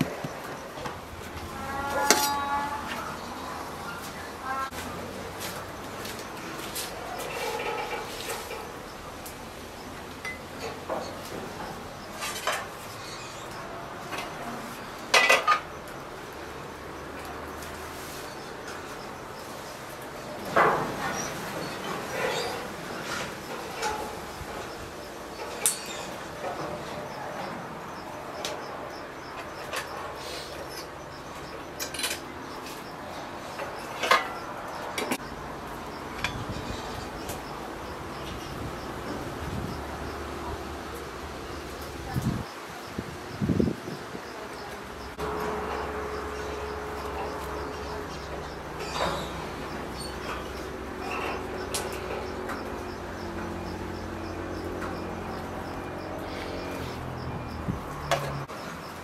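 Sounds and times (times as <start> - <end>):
quiet outdoor background: 0.0 - 59.0.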